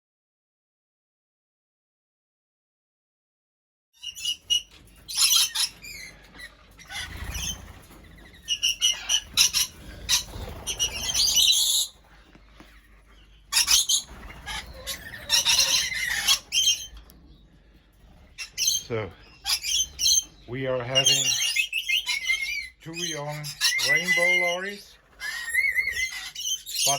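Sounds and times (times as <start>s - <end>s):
birds screeching and chirping: 4.0s - 26.9s.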